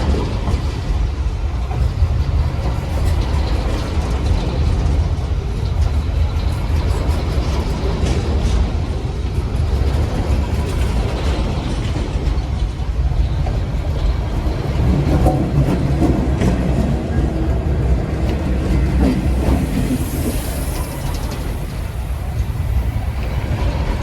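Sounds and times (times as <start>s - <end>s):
locomotive engine rumble: 0.0s - 24.0s.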